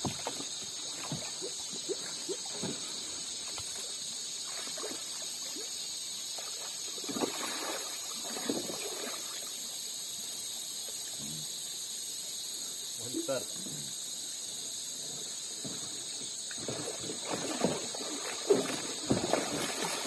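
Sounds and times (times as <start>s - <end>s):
water trickling and splashing: 0.0s - 13.3s, 14.4s - 20.0s.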